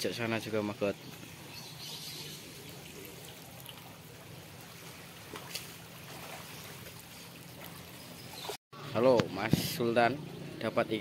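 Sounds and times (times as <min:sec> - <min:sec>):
water trickling into pond: 0:00.0 - 0:09.2.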